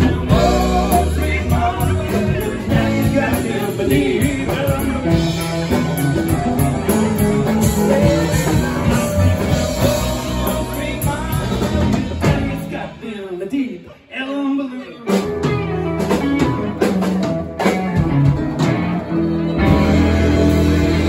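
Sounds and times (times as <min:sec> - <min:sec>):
live rock band playing: 0:00.0 - 0:13.4, 0:14.6 - 0:21.0
person singing: 0:00.0 - 0:18.0.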